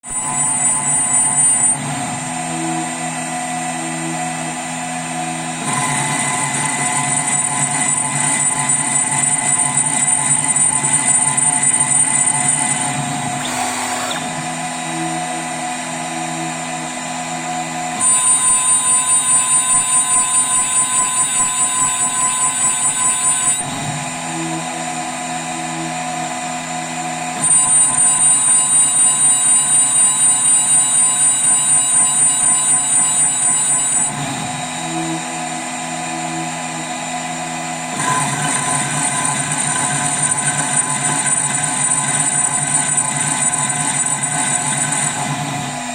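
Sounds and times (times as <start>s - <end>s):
cutter pulsing in metal: 0.0s - 45.9s
milling machine spindle running: 0.0s - 45.9s.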